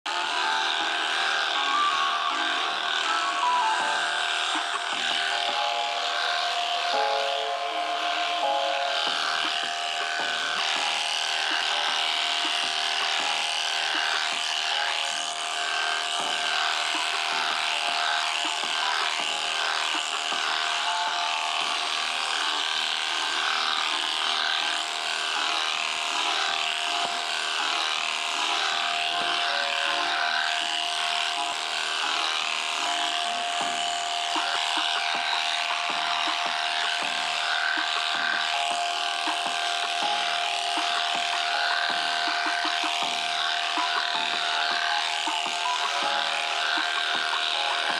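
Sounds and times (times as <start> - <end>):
electric shearing handpiece buzzing: 0.0 - 47.9.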